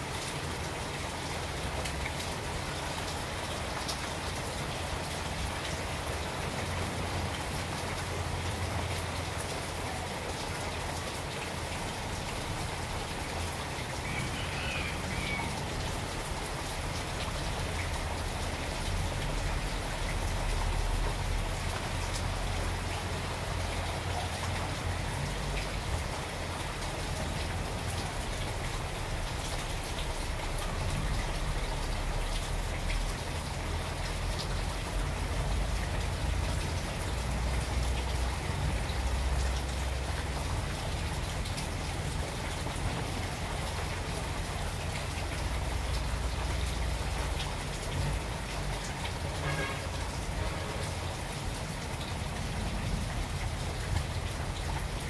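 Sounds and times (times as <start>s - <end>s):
rain pattering on foliage: 0.0s - 55.0s.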